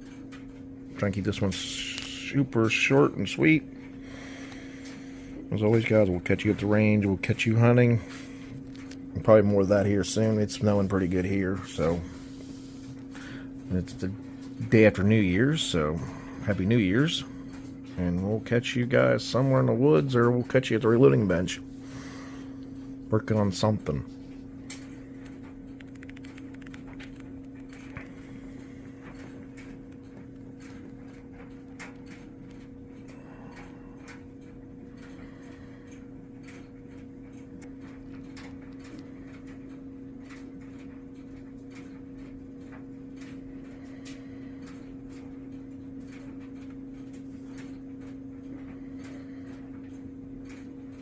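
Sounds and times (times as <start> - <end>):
faint clicks and ticks: 0.0 - 51.0
steady hum: 0.0 - 51.0.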